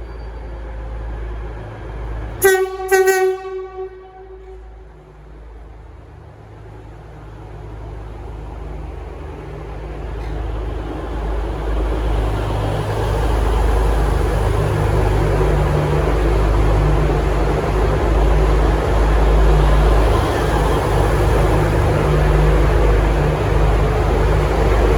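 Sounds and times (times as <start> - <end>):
diesel train engines droning: 0.0 - 24.9.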